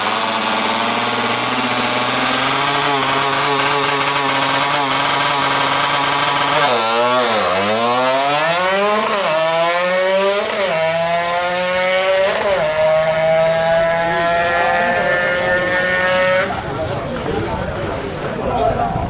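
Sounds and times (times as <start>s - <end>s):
two-stroke motorcycle engine accelerating: 0.0s - 18.4s.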